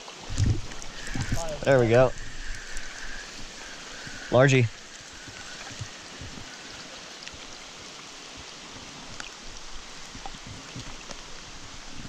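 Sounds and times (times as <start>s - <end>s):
faint raindrop ticks: 0.0s - 8.1s, 9.1s - 11.5s
creek flowing: 0.0s - 12.0s
light rain on water: 0.0s - 12.0s.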